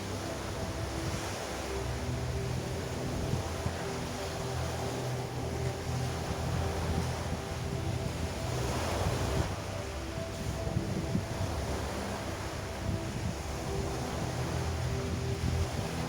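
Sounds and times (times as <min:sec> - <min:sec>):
boat engine drone: 0:00.0 - 0:16.0
sea water: 0:00.0 - 0:16.0
wind buffeting microphone: 0:00.0 - 0:16.0.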